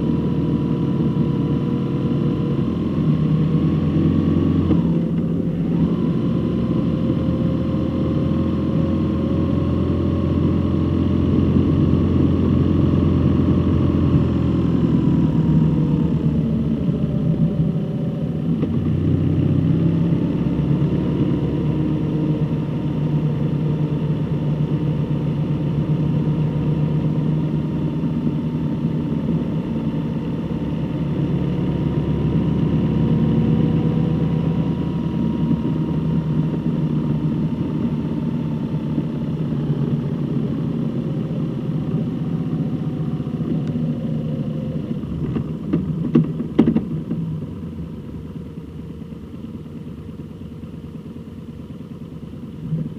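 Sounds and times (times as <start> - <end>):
road noise: 0.0 - 52.9
vehicle engine running: 0.0 - 52.9.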